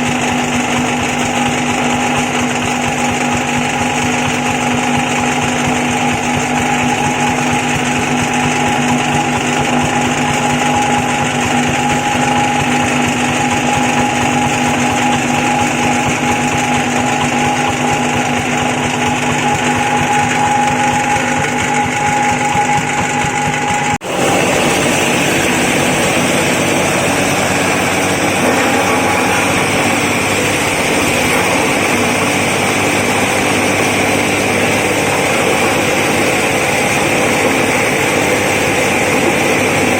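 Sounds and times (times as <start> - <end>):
grinding mill running with hum: 0.0 - 39.9.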